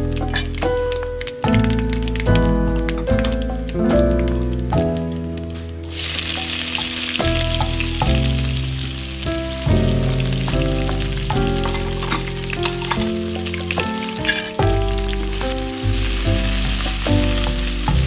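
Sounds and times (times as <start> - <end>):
background music: 0.0 - 18.0
food sizzling in hot oil: 0.0 - 18.0.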